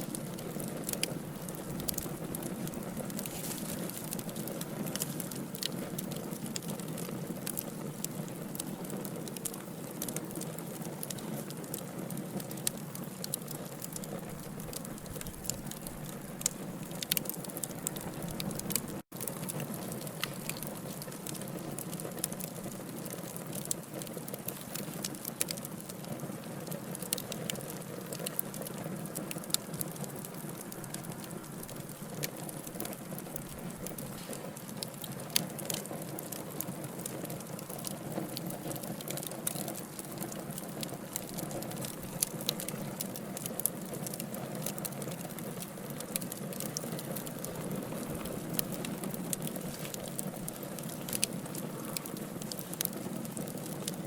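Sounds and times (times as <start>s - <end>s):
fire flames rushing: 0.0s - 54.0s
logs crackling and popping: 0.0s - 54.0s.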